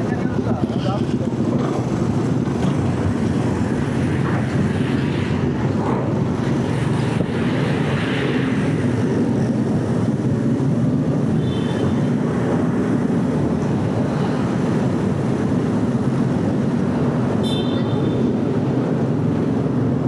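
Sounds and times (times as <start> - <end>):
ship engines rumbling: 0.0 - 17.4.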